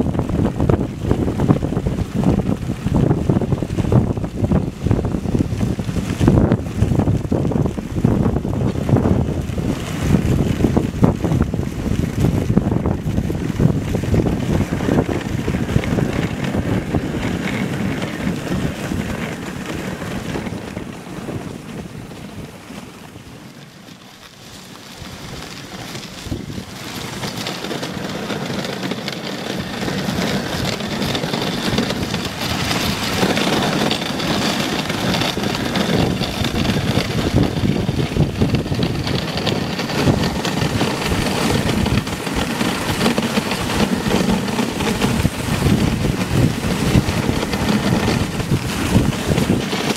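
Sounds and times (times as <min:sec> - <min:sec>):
sled runners on snow: 0:00.0 - 0:49.9
wind on microphone: 0:00.0 - 0:49.9.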